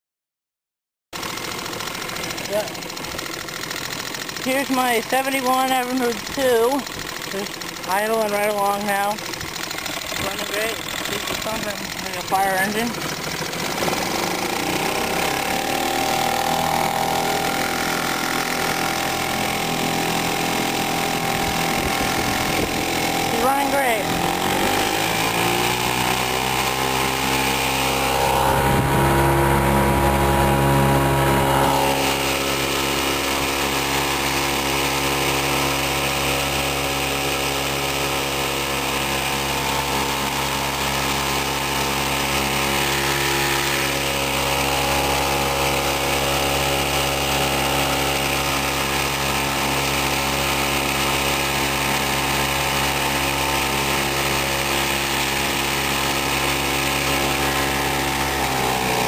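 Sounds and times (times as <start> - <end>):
outboard motor running: 1.2 - 59.0.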